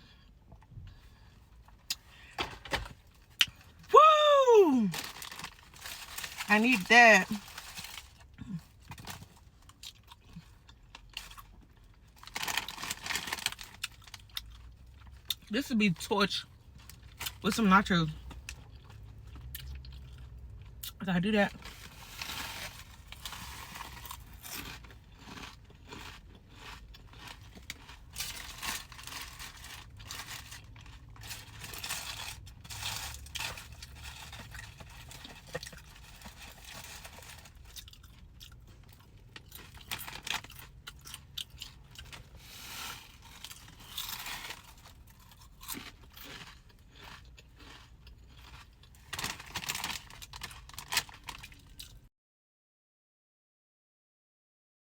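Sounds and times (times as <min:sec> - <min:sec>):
chewing and crunching: 0:04.9 - 0:15.5, 0:18.1 - 0:52.0.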